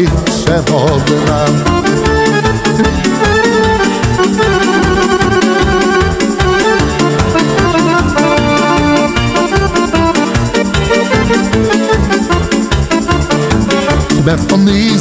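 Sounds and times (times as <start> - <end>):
keyboard organ melody over beat: 0.0 - 15.0.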